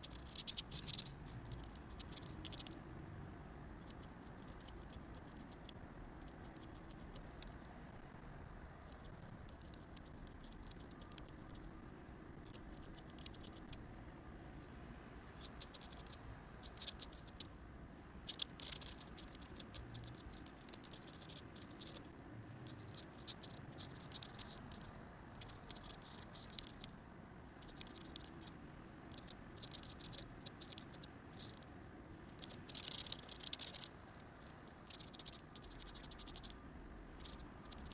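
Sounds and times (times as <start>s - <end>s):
faint room hum: 0.0s - 37.9s.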